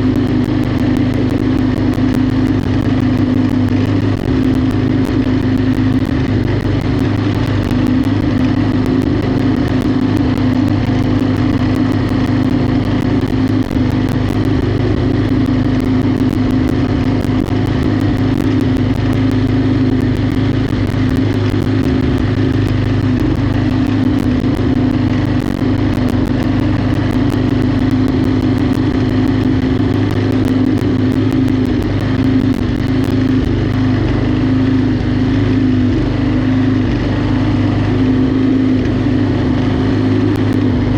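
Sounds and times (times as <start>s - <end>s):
faint clicks: 0.0s - 33.8s
riding lawnmower engine: 0.0s - 40.9s.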